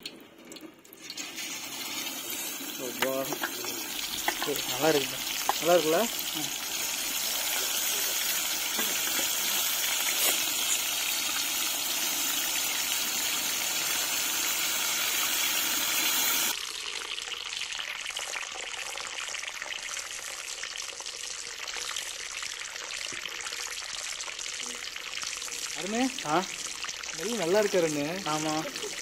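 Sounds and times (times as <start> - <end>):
chicken deep-frying in hot oil: 0.0 - 29.0.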